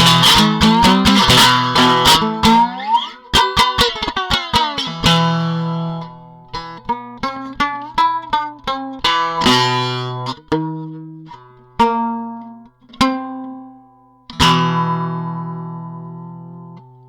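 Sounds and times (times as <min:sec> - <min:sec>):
guitar plucked notes and chord: 0:00.0 - 0:17.0.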